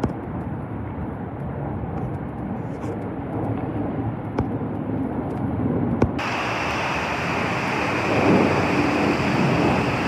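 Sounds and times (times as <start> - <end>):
jet airliner roar: 0.0 - 10.0
quieter aircraft noise: 0.0 - 10.0.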